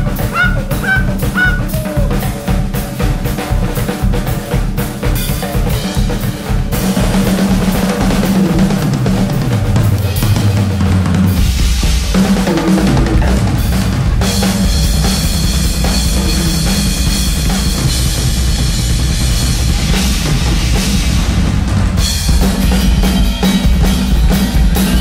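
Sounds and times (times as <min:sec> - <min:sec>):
drum kit played hard: 0:00.0 - 0:25.0.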